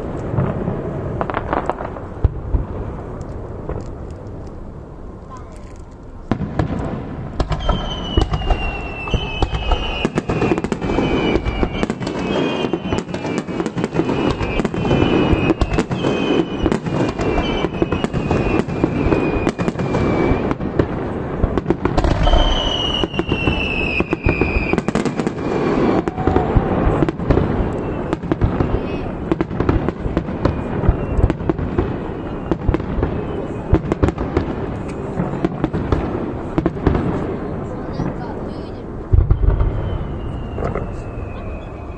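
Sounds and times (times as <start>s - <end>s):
fireworks bangs and crackles: 0.0s - 41.9s
fireworks whistles falling: 6.3s - 37.2s, 39.1s - 41.9s.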